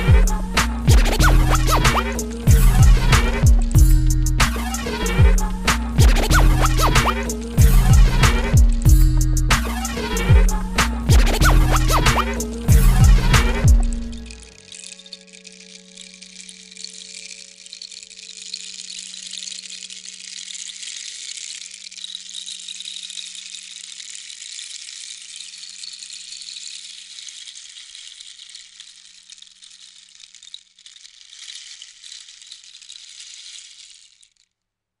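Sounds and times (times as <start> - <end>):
high crackling rattle: 0.0 - 34.6.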